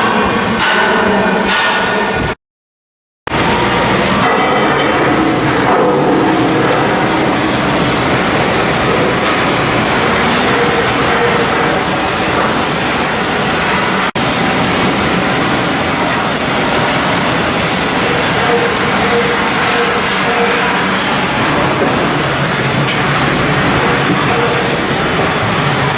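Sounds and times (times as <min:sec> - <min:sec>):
shipyard machinery noise: 0:00.0 - 0:02.4, 0:03.3 - 0:25.9.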